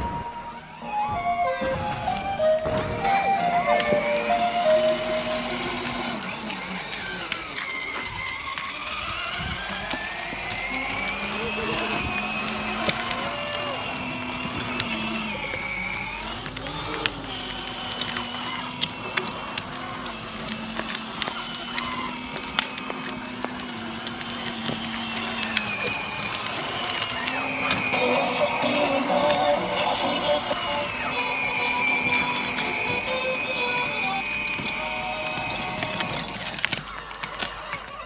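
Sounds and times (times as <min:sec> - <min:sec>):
electric toy car motors whining: 0:00.0 - 0:38.0
scattered clicks: 0:02.1 - 0:38.0.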